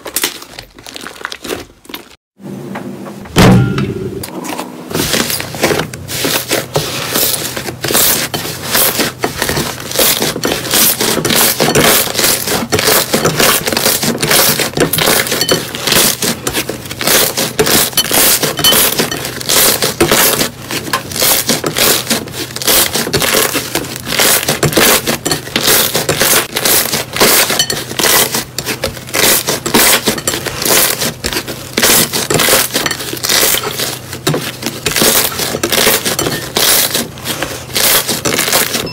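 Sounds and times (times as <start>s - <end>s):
slime crackling and squelching: 0.0s - 2.2s, 5.0s - 38.9s.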